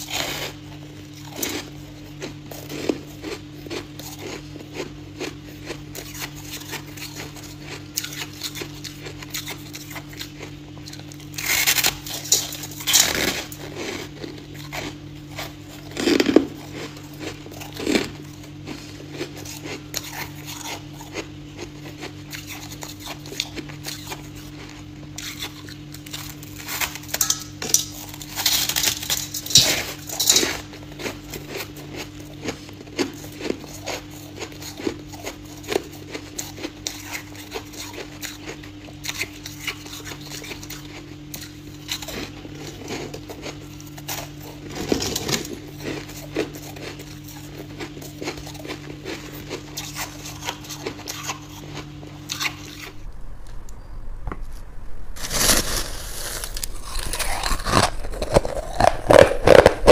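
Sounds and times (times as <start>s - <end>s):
chewing crunchy ice: 0.0s - 53.0s, 55.3s - 59.9s
faint steady hum: 0.0s - 59.9s.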